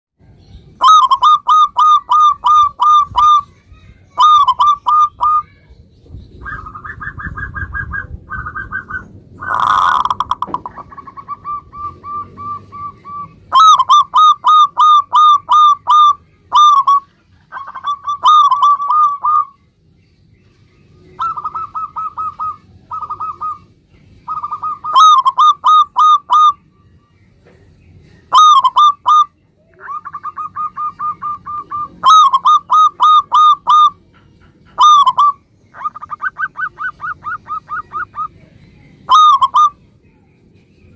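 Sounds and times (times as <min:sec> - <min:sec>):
dove cooing: 0:00.8 - 0:03.5, 0:04.1 - 0:05.5, 0:06.4 - 0:19.6, 0:21.0 - 0:26.6, 0:28.3 - 0:38.5, 0:39.1 - 0:39.8.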